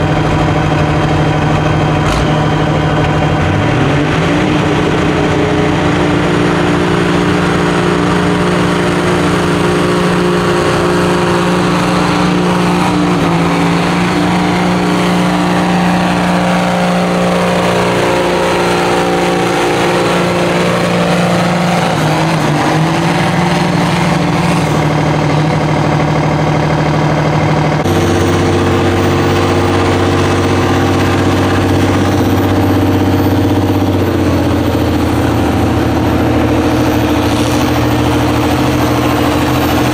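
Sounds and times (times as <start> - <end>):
tractor diesel engine under load: 0.0 - 39.9
tractor engine running steadily: 0.0 - 39.9.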